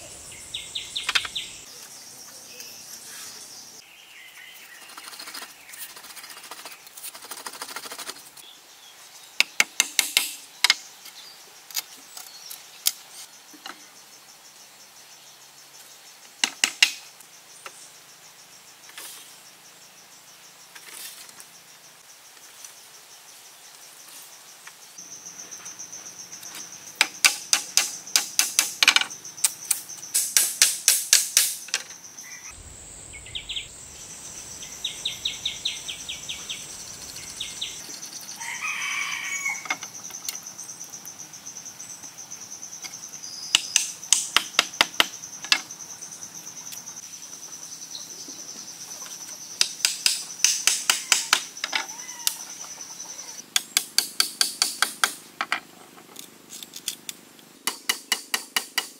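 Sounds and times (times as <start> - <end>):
high insect trill: 0.0 - 2.9, 9.8 - 55.5.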